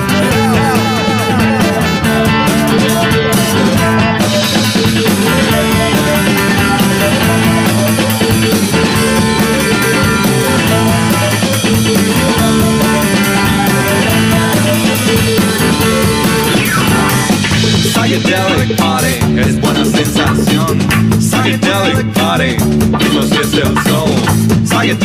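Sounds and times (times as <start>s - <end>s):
instrumental rock music: 0.0s - 25.0s.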